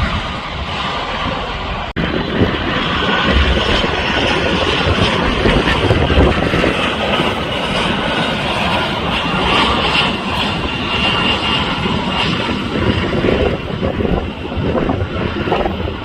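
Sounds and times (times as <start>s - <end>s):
jet engines roaring overhead: 0.0s - 16.0s.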